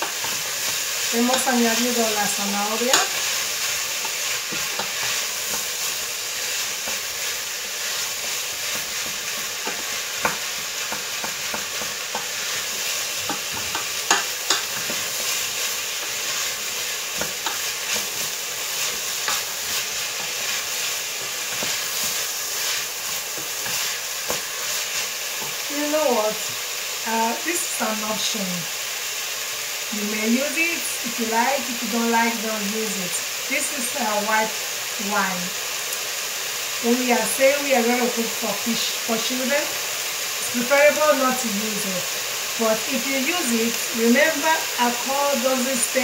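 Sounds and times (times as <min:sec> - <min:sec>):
vegetables sizzling in oil: 0:00.0 - 0:46.0.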